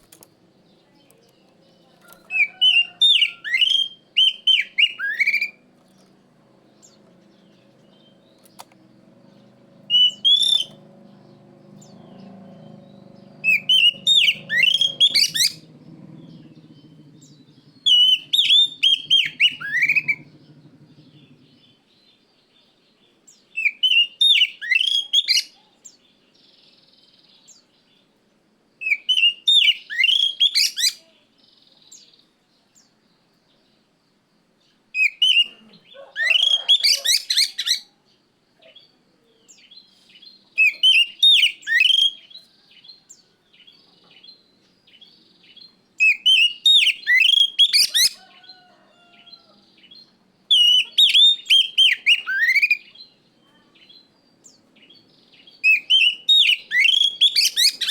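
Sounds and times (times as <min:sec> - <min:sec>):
bird singing whistled notes: 0:00.8 - 0:05.7, 0:06.8 - 0:22.2, 0:23.3 - 0:25.6, 0:28.8 - 0:32.2, 0:35.0 - 0:38.0, 0:38.6 - 0:57.9.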